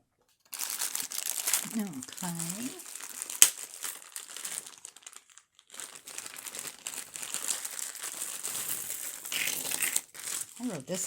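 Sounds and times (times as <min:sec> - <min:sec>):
bag crinkling and rustling: 0:00.5 - 0:11.0.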